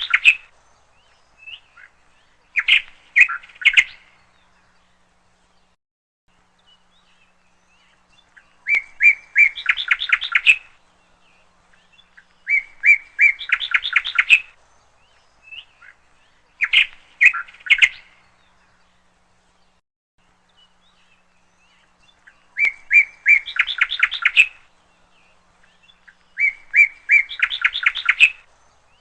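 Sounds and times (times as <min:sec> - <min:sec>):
bird chirping and trilling: 0:00.0 - 0:05.7, 0:06.4 - 0:19.8, 0:20.4 - 0:29.0.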